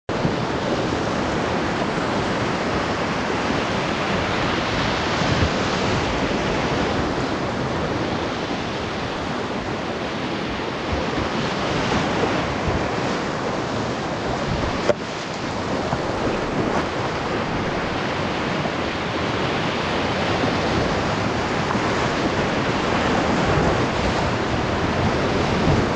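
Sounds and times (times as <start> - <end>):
river rapids rushing over boulders: 0.1 - 25.9.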